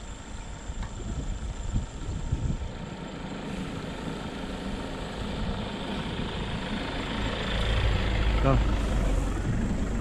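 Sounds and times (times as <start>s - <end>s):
truck engine humming: 0.0s - 10.0s.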